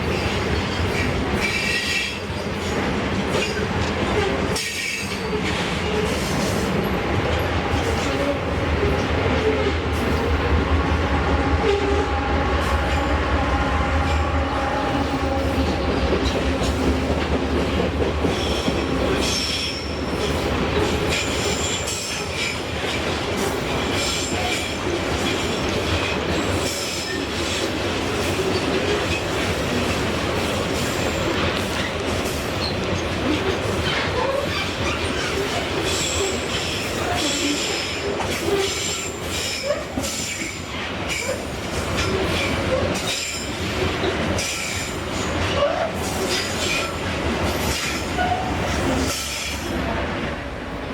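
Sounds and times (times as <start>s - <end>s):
train wagons clattering: 0.0s - 12.0s, 14.0s - 50.3s
train engine drone: 0.0s - 50.9s.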